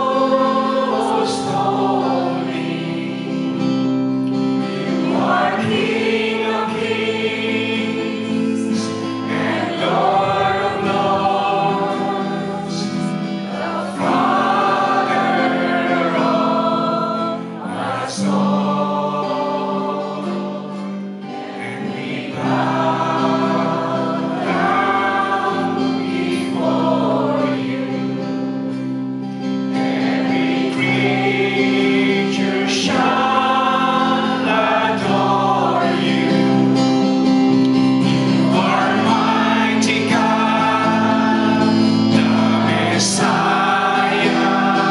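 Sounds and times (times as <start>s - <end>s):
acoustic guitars: 0.0s - 44.9s
congregation singing: 0.0s - 44.9s.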